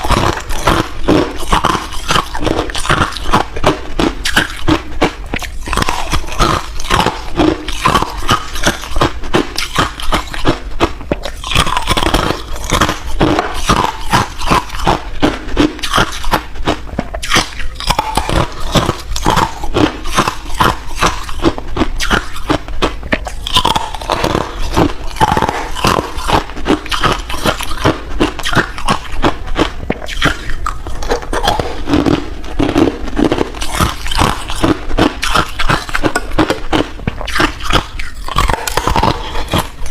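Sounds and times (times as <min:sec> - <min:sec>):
person chewing ice crunching: 0:00.0 - 0:39.9.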